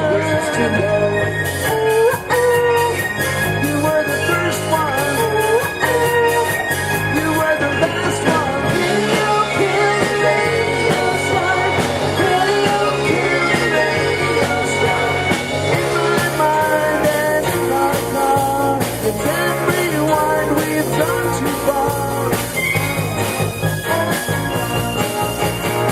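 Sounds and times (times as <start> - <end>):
rock and roll band with singer: 0.0 - 25.9.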